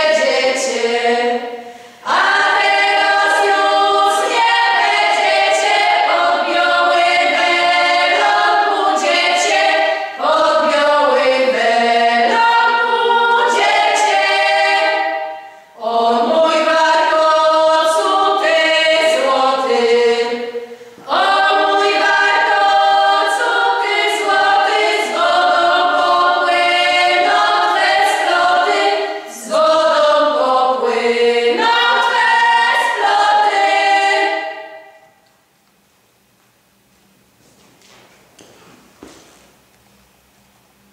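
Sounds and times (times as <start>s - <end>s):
women singing unaccompanied: 0.0s - 35.0s.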